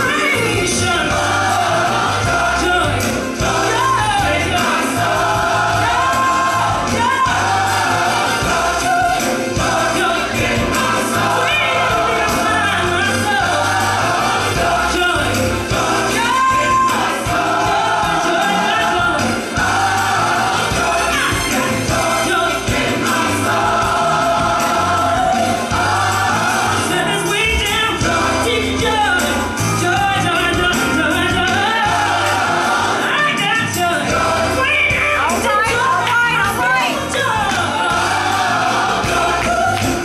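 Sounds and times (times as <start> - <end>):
gospel singing voices: 0.0 - 40.0.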